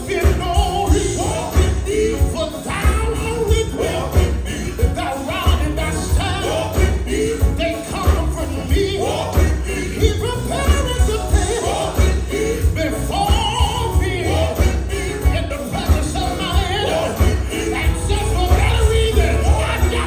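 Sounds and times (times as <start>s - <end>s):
jingling percussion: 0.0s - 20.0s
pulsing bass beat: 0.0s - 20.0s
voices singing drawn-out notes: 0.0s - 20.0s.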